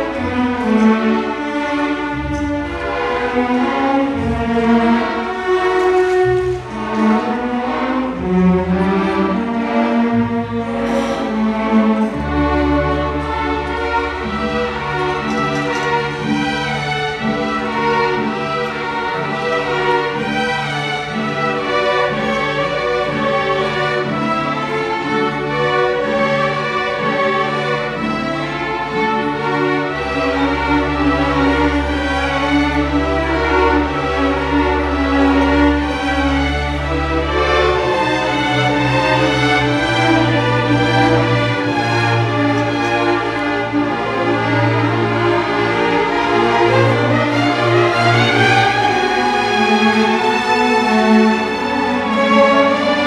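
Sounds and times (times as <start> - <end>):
string orchestra holding long notes: 0.0 - 53.0.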